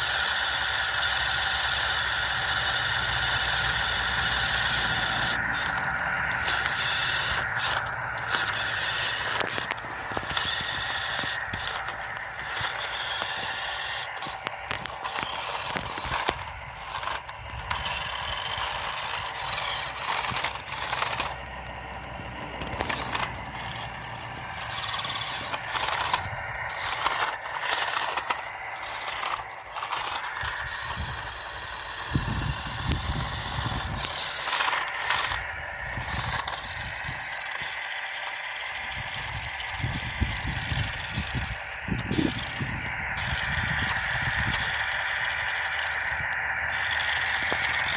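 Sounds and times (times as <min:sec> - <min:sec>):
toy truck electric motor whining: 0:00.0 - 0:47.9
clattering and scraping on rough ground: 0:00.1 - 0:47.9.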